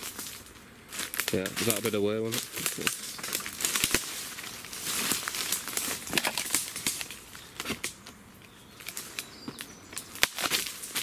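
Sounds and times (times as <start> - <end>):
footsteps through undergrowth: 0.0 - 11.0
leaves rustling: 0.0 - 11.0
twigs crackling: 0.0 - 11.0.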